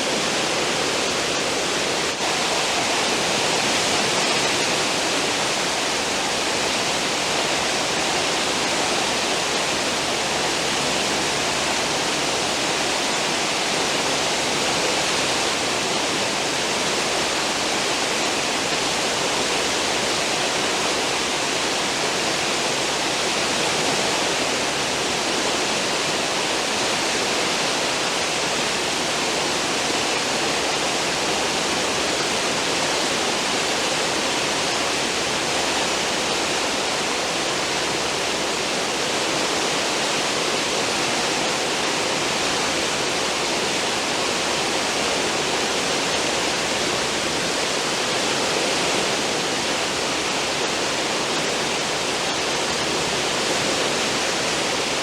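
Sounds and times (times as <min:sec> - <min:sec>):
churning water rushing: 0:00.0 - 0:55.0.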